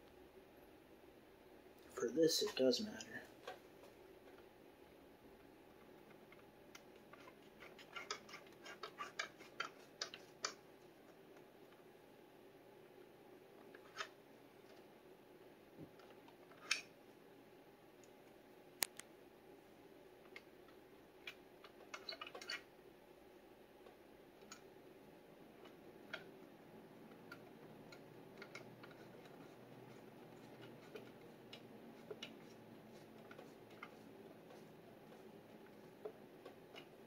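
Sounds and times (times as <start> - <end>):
quiet room hum: 0.0 - 37.0.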